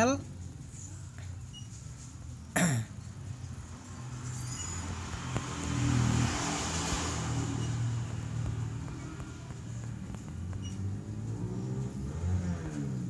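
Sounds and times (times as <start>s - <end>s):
road vehicle passing: 1.8s - 13.0s.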